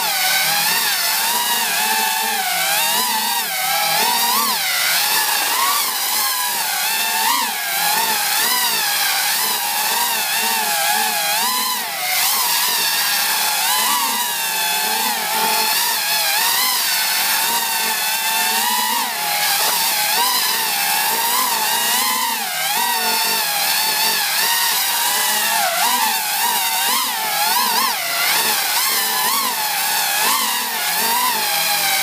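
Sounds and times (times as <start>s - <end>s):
drone motors and propellers whining: 0.0s - 32.0s.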